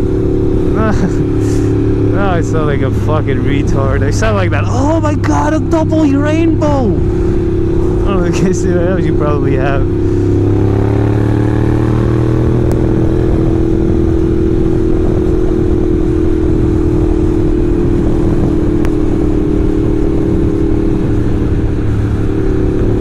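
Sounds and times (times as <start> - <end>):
motorcycle engine cruising: 0.0 - 23.0
rushing wind noise: 0.0 - 23.0.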